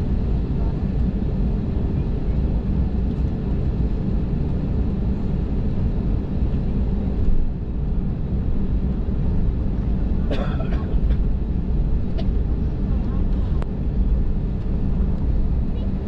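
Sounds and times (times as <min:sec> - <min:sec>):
jet engines at low power: 0:00.0 - 0:16.0.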